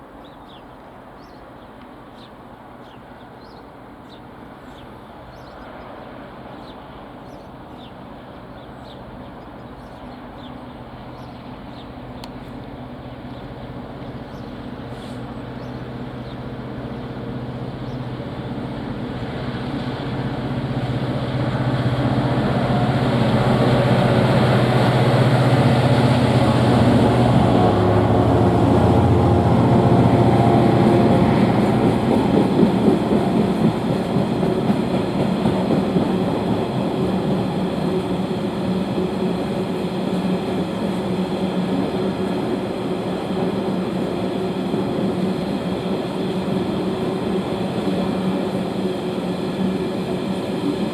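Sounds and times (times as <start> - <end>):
rail noise: 0.0 - 50.9
diesel locomotive engine: 0.8 - 50.9.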